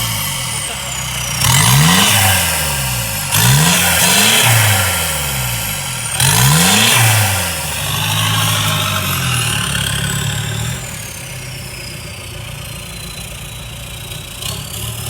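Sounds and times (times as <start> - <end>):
diesel engine revving and idling: 0.0 - 15.0.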